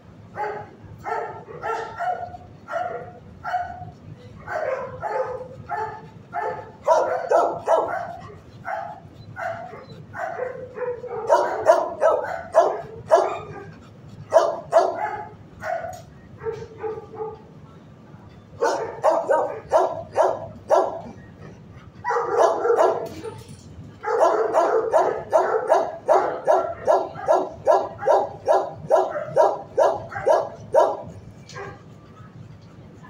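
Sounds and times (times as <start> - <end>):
dogs barking: 0.3 - 17.5, 18.6 - 23.4, 24.0 - 32.4.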